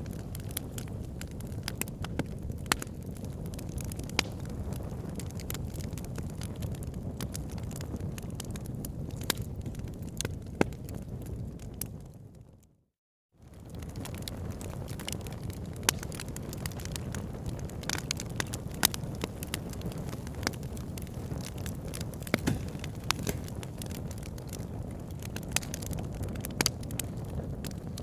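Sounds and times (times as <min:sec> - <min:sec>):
fire crackling in a fireplace: 0:00.0 - 0:12.8, 0:13.4 - 0:28.0.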